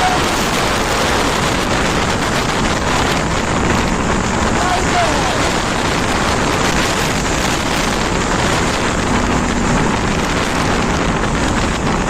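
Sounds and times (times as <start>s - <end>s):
road noise: 0.0s - 12.0s
wind rushing on microphone: 0.0s - 12.0s.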